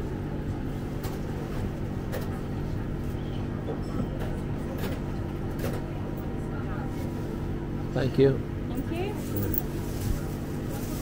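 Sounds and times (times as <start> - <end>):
low hum of market hall: 0.0 - 11.0.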